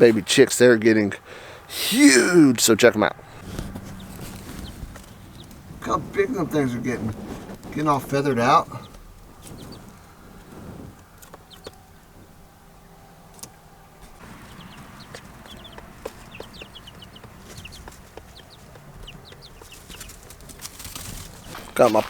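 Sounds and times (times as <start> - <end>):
chicks peeping: 3.0 - 22.0.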